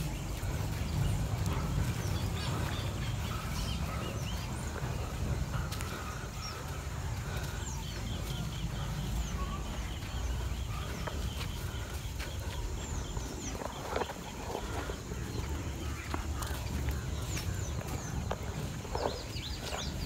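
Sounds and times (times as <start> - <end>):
birds chirping: 0.0 - 20.0
lower bird calls: 0.0 - 20.0
steady low rumble: 0.0 - 20.0.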